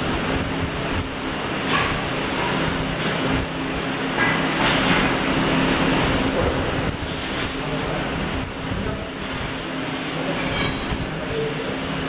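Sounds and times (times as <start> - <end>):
welding arc hissing and crackling: 0.0 - 12.0
welding transformer hum: 0.0 - 12.0.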